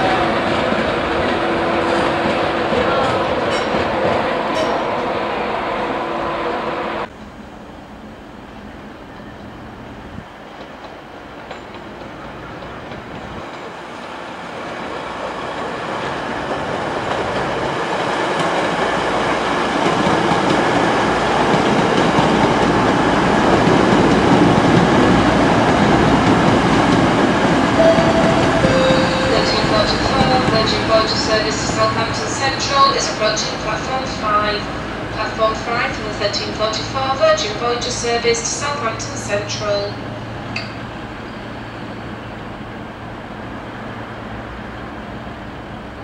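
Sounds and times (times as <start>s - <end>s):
diesel train passing: 0.0s - 46.0s.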